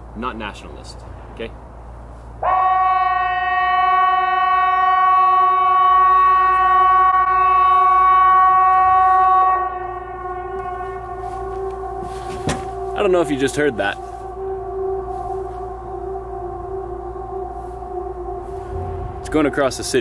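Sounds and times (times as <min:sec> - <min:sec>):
distant sirens echoing: 0:00.7 - 0:20.0
outdoor warning siren steady tone: 0:01.9 - 0:20.0.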